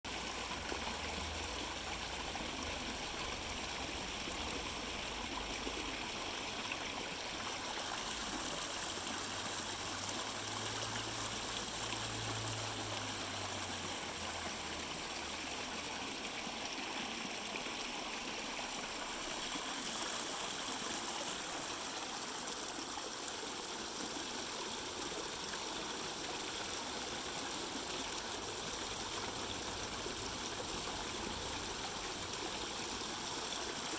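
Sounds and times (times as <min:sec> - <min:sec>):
fountain water splashing: 0:00.1 - 0:33.9.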